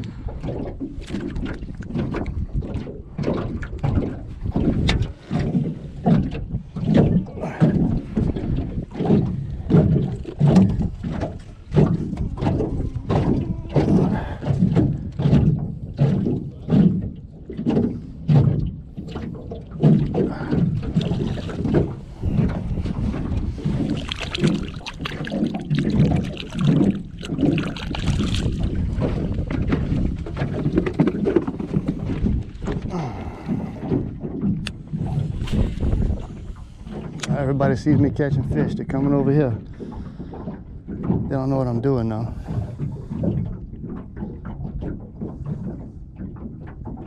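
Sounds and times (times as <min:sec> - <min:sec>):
waves slapping against boat hull: 0:00.0 - 0:47.0.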